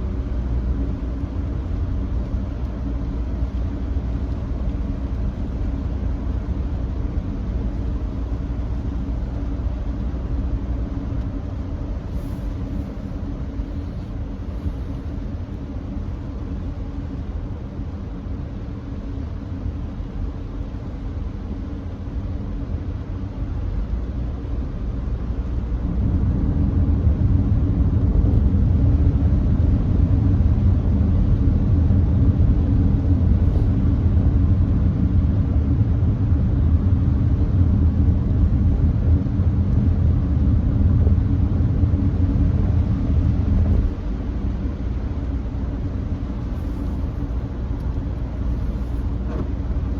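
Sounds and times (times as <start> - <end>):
road and tyre noise in car cabin: 0.0 - 49.9.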